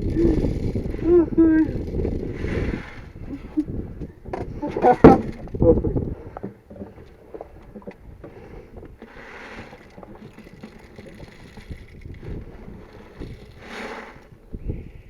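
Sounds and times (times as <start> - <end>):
wind rumble on microphone: 0.0 - 9.0, 10.0 - 15.0
rustling and small knocks: 0.0 - 14.4.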